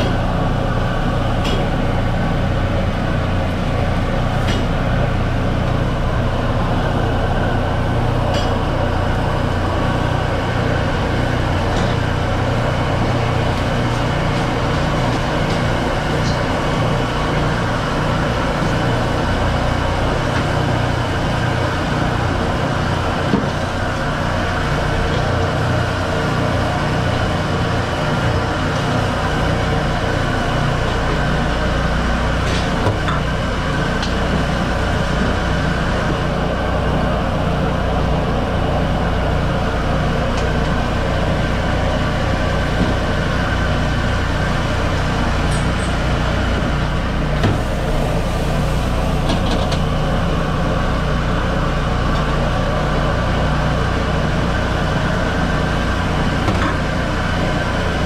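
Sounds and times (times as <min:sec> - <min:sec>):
gas burners roaring: 0:00.0 - 0:58.0.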